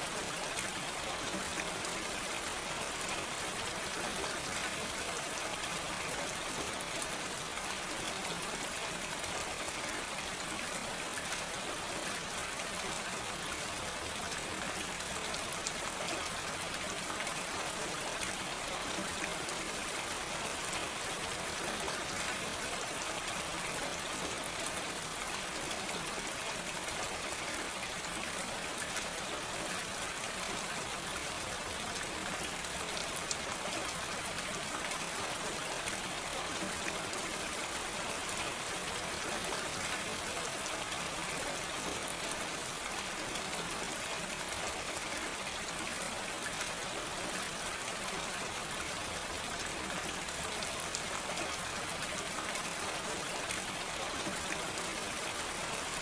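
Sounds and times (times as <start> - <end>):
steady gentle rain: 0.0 - 56.0.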